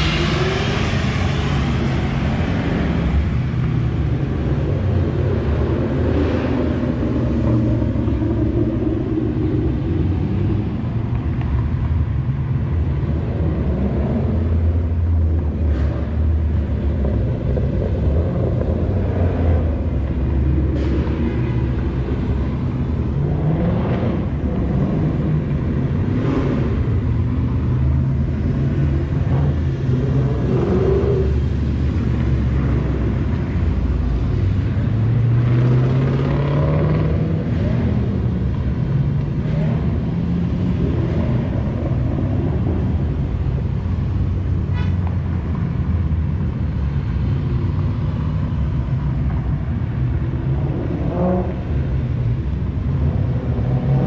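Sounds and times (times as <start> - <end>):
car engines rumbling past: 0.0 - 54.0.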